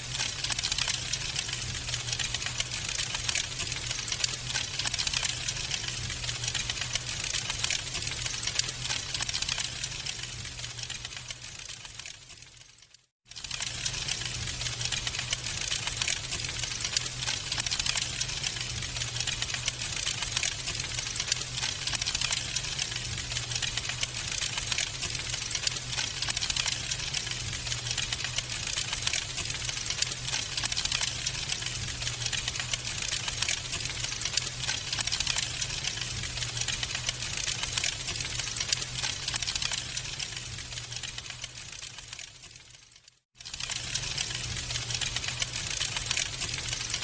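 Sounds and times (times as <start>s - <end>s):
wood fire crackling: 0.0s - 42.8s, 43.4s - 47.0s.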